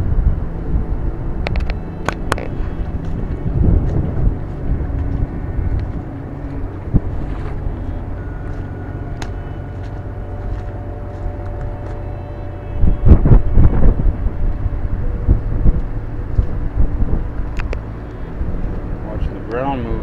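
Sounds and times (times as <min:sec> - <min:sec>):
faint steady tones: 0:00.0 - 0:20.0
low rumble: 0:00.0 - 0:20.0
wind buffeting microphone: 0:00.0 - 0:20.0.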